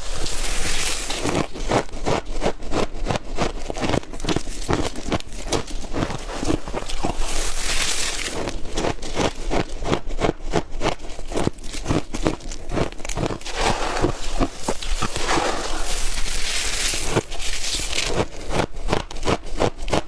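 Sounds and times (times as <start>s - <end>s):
ice crunched between teeth: 0.0s - 20.0s.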